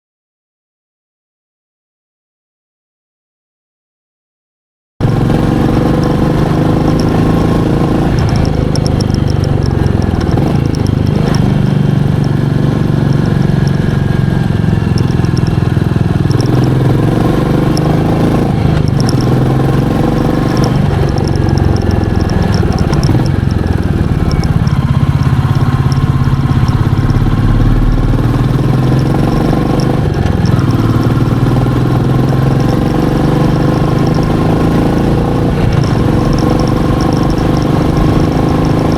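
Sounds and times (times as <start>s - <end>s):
single-cylinder engine running: 5.0s - 38.9s.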